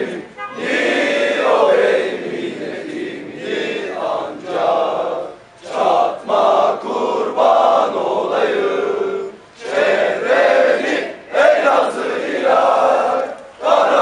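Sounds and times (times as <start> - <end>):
crowd chanting slogans: 0.0 - 14.0.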